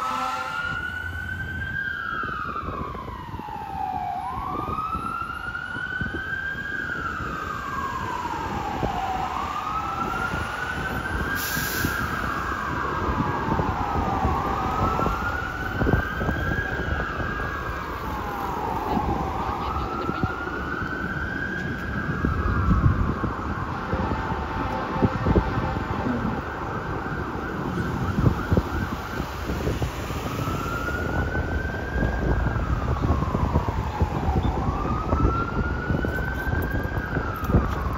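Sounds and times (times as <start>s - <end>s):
fire engine siren wailing: 0.0s - 37.9s
street traffic rumble: 0.0s - 37.9s.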